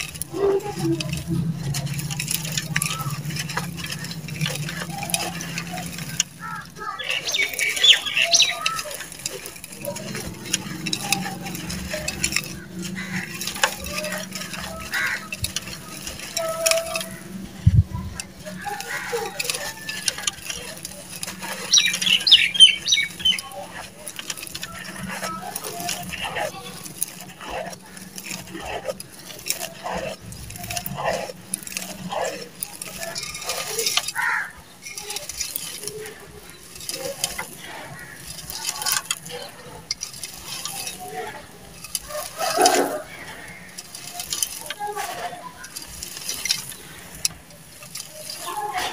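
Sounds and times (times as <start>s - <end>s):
faint background sounds: 0.0s - 48.9s
falling crumbs clicking: 0.0s - 48.9s
grit trickling into clay pot: 0.0s - 48.9s.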